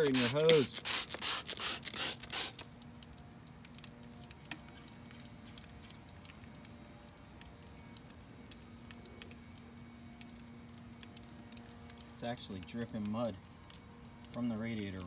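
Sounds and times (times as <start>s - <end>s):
low steady hum: 0.0s - 15.0s
foam fizzing and popping: 0.1s - 15.0s.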